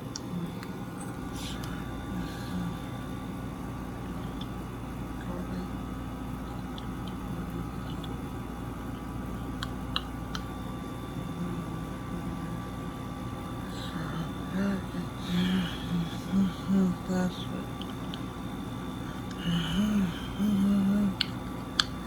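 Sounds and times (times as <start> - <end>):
window air conditioner humming: 0.0 - 22.0.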